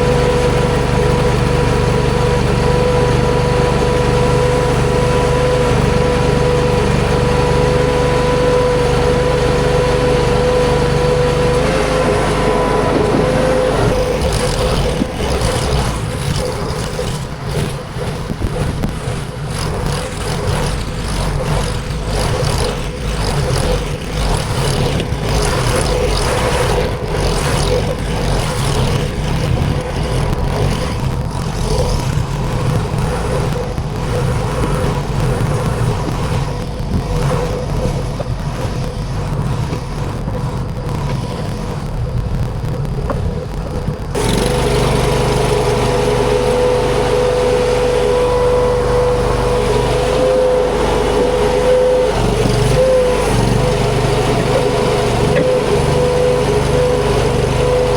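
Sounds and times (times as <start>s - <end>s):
skid steer engine running: 0.0s - 57.9s.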